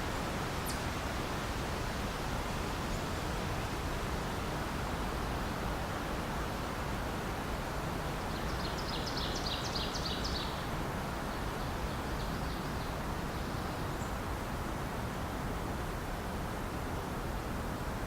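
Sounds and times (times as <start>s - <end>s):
wind rushing through trees: 0.0s - 18.0s.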